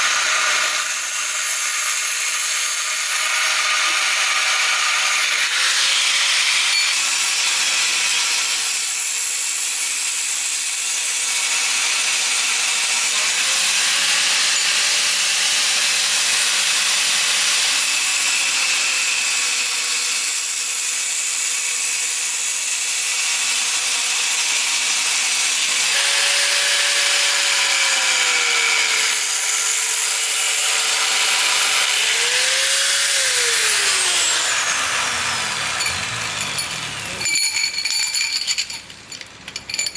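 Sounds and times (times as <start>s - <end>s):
power tool cutting wood: 0.0s - 37.6s.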